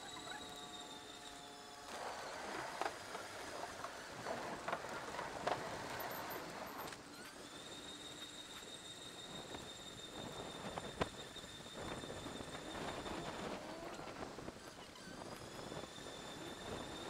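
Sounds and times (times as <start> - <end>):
electric bike motor whine: 0.0 - 17.0.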